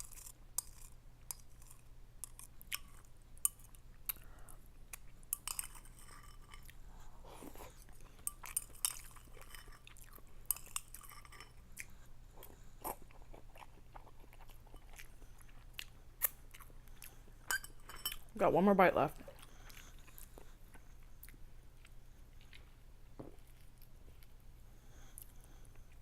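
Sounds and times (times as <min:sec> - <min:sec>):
person chewing noodles: 0:00.0 - 0:18.3, 0:19.2 - 0:26.0.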